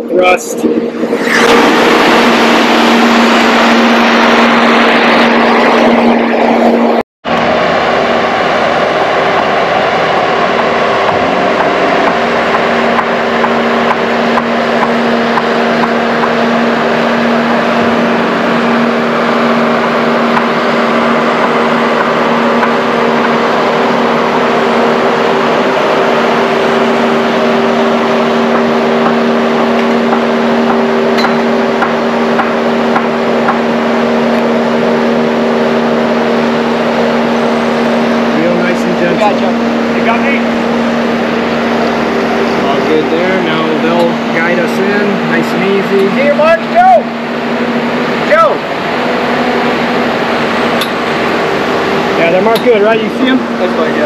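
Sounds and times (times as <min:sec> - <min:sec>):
diesel engine idling: 0:07.5 - 0:54.0.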